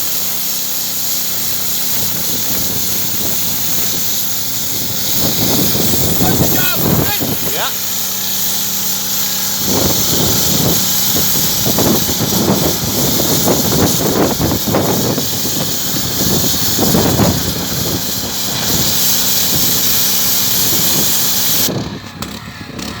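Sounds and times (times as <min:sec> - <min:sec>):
water jet hissing: 0:00.0 - 0:21.7
pressure washer motor hum: 0:00.0 - 0:23.0.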